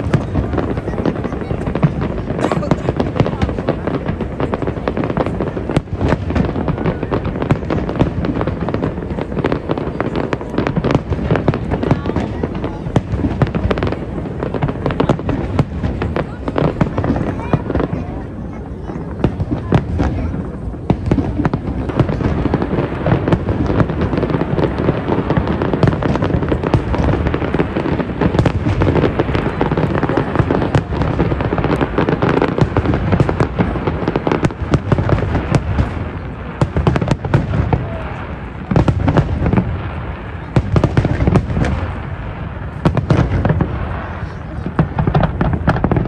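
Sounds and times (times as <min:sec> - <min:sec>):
fireworks booming and crackling: 0:00.0 - 0:46.0.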